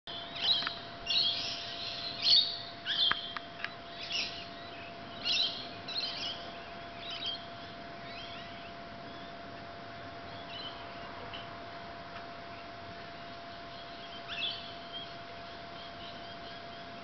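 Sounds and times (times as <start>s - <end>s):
lorikeets screeching and chirping: 0.1s - 9.3s, 10.3s - 11.5s, 12.6s - 17.0s
faint steady hum: 0.1s - 17.0s.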